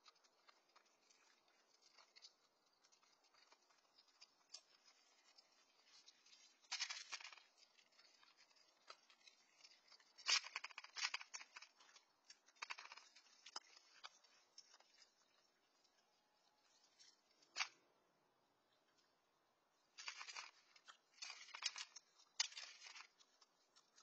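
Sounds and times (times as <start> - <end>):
raccoons crunching kibble: 0.0 - 17.9, 18.6 - 24.0.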